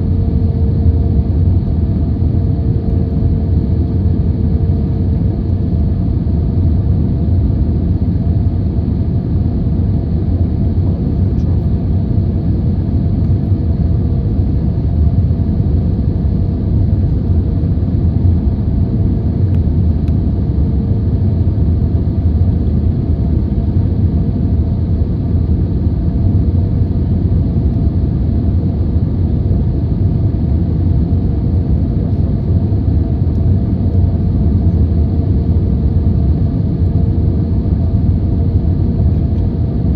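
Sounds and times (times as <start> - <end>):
constant hum: 0.0 - 39.9
jet engine low rumble: 0.0 - 39.9.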